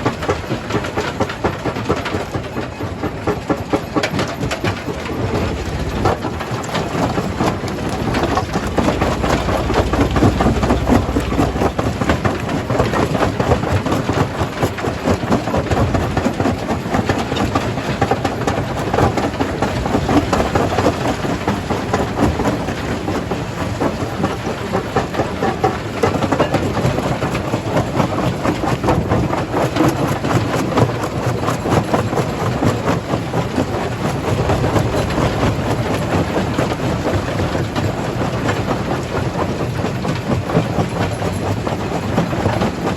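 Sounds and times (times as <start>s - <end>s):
heavy machine rumble: 1.6s - 16.0s, 17.4s - 28.0s, 33.1s - 42.9s.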